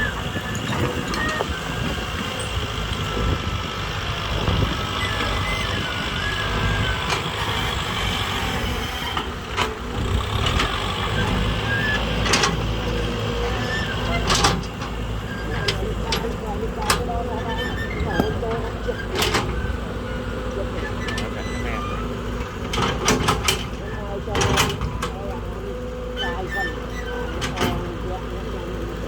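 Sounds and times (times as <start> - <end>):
motor running with whine: 0.0 - 29.0.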